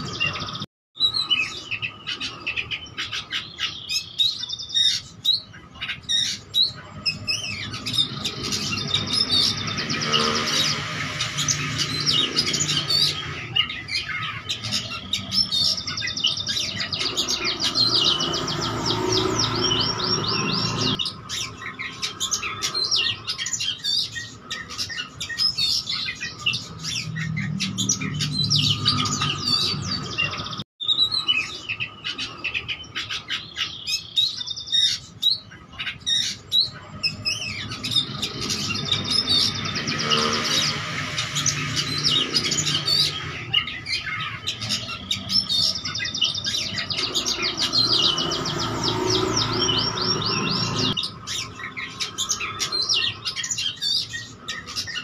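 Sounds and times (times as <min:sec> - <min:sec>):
bird singing whistles and trills: 0:00.0 - 0:55.0.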